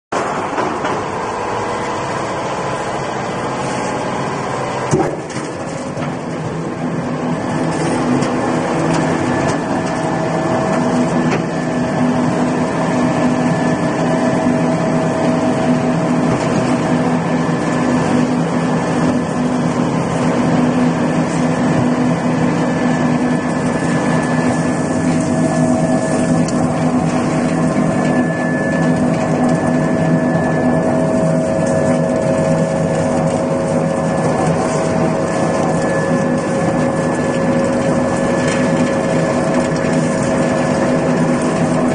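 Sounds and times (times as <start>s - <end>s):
oil expeller machine humming: 0.1s - 41.9s.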